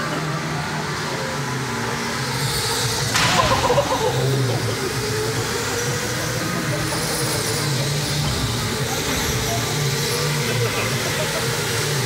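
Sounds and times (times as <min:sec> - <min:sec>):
go-karts racing: 0:00.0 - 0:12.0.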